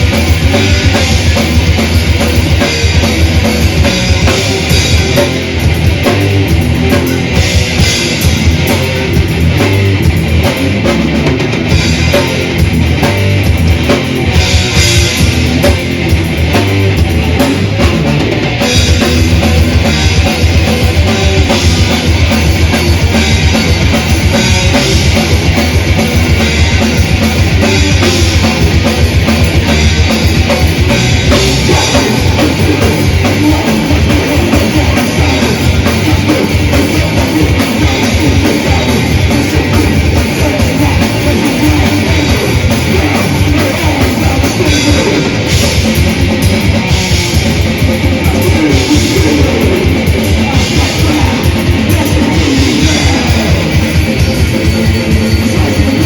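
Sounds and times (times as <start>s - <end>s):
bass guitar: 0.0s - 56.0s
distorted electric guitars: 0.0s - 56.0s
fast drum kit: 0.0s - 56.0s.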